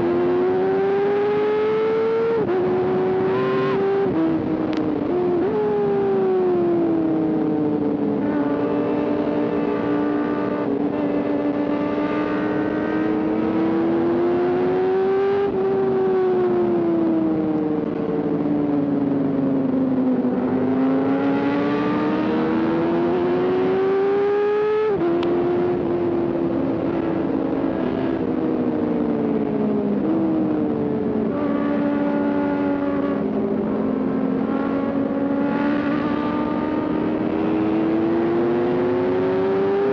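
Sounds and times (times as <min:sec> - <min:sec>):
motorcycle engine revving: 0:00.0 - 0:18.4, 0:19.2 - 0:39.9.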